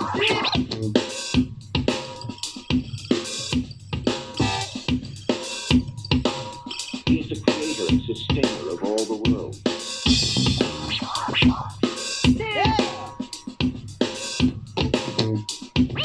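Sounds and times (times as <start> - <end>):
drum-driven music through speaker: 0.0 - 16.0.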